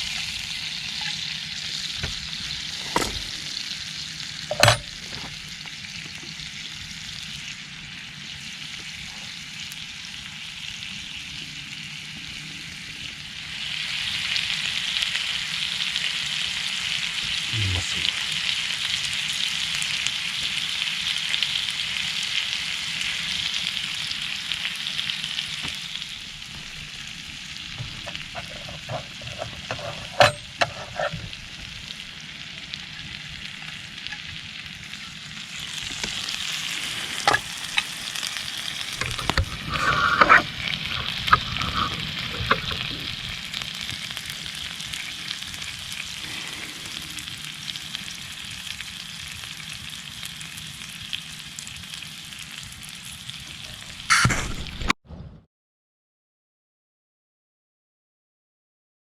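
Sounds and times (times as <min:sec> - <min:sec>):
meat sizzling on a griddle: 0:00.0 - 0:54.9.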